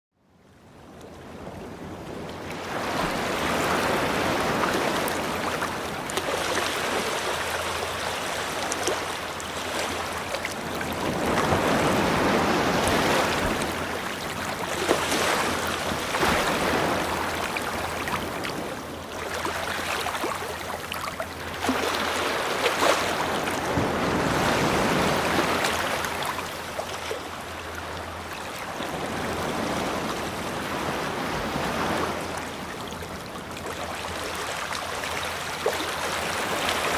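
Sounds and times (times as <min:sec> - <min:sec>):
ocean waves breaking: 0:01.2 - 0:36.9.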